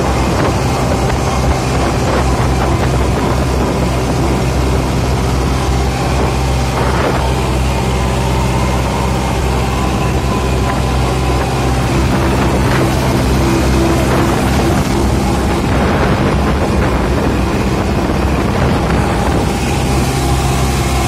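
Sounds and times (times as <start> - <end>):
tractor diesel engine at high revs: 0.0 - 21.0.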